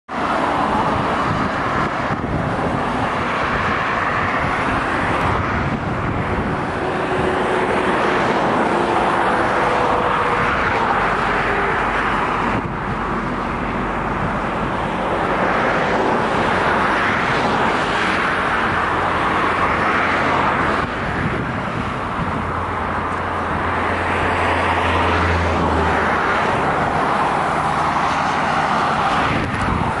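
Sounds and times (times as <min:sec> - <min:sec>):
highway traffic noise: 0:00.0 - 0:30.0
heavy vehicle engine hum: 0:00.1 - 0:30.0.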